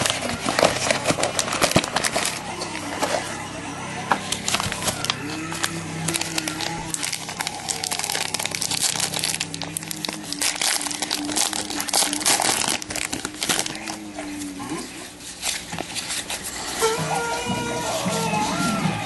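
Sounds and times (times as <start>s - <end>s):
plastic wrapping tearing and crinkling: 0.0s - 3.3s, 4.1s - 17.3s.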